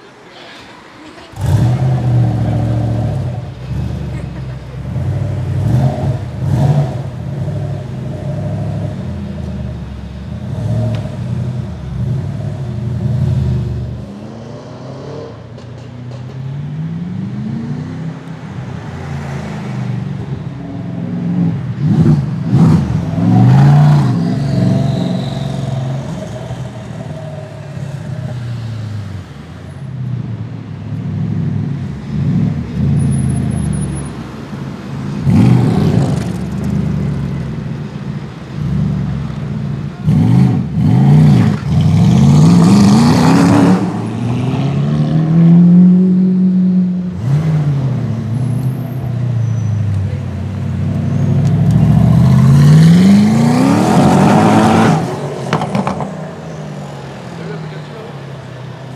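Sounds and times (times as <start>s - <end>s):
car engine revving and accelerating: 1.3s - 15.6s, 16.4s - 29.4s, 34.8s - 48.9s, 50.0s - 58.9s.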